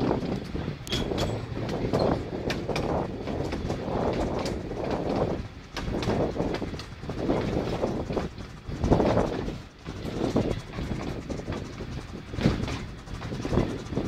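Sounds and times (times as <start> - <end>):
train coaches rattling: 0.0 - 14.0
train wheels clicking over rail joints: 0.0 - 14.0.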